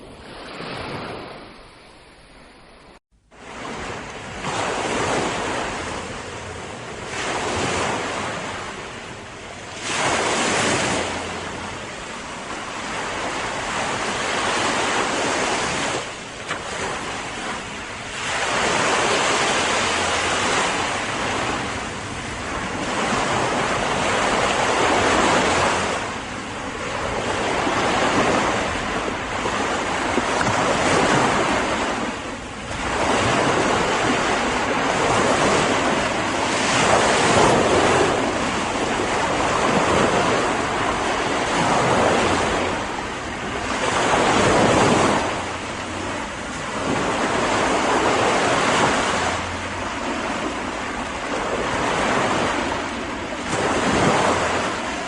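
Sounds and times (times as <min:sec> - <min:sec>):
waves breaking: 0:00.0 - 0:55.0
wind: 0:00.0 - 0:55.0.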